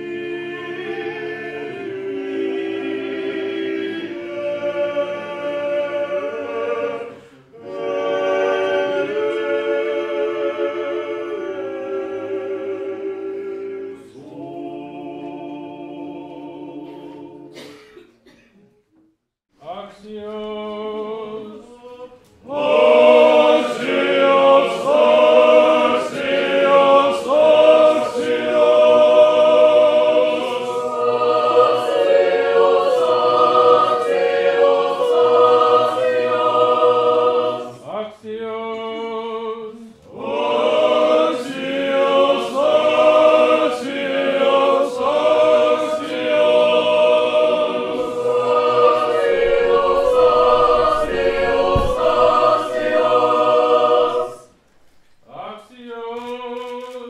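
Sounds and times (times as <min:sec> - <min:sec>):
choir singing a cappella chant: 0:00.0 - 0:18.4, 0:19.6 - 0:57.0.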